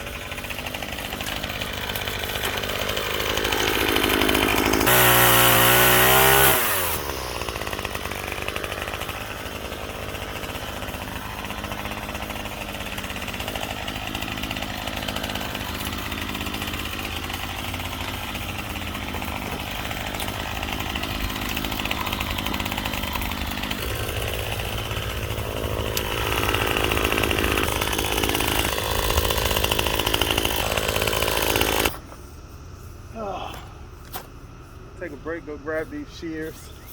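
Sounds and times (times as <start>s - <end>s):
chainsaw running: 0.0s - 32.5s.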